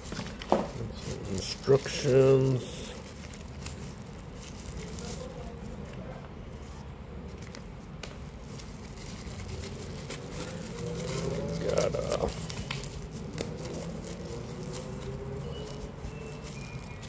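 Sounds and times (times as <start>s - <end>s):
packaging rustling: 0.0s - 17.0s
small clicks and scrapes: 3.0s - 17.0s.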